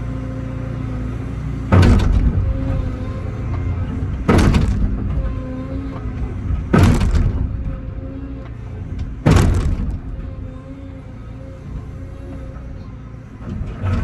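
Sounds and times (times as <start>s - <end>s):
excavator engine under load: 0.0s - 14.0s.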